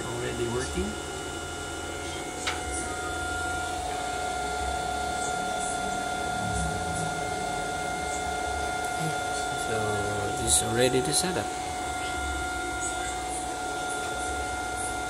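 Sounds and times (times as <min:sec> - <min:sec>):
cooling fans whining: 0:00.0 - 0:15.0
low hum: 0:01.8 - 0:14.9.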